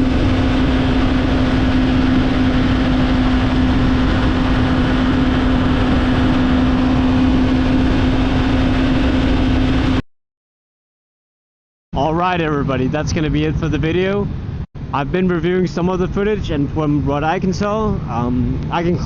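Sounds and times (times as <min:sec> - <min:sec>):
motorcycle engine drone: 0:00.0 - 0:10.0, 0:12.0 - 0:19.0
wind and road noise: 0:00.0 - 0:10.0, 0:12.0 - 0:19.0.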